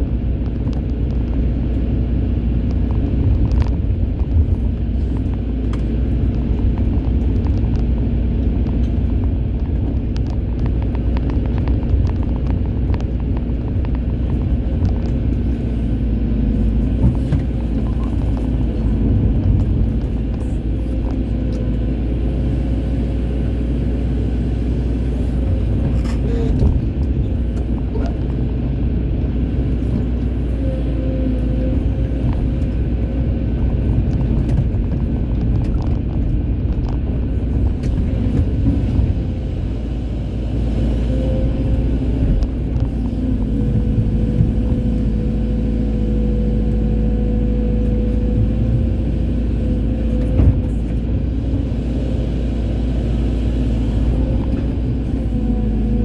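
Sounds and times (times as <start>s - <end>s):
excavator engine rumbling: 0.0s - 56.0s.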